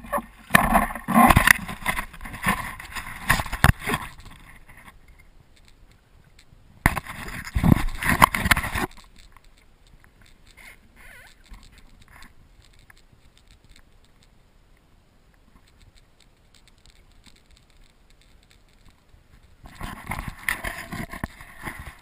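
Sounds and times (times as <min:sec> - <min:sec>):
small ticks: 0:00.0 - 0:22.0.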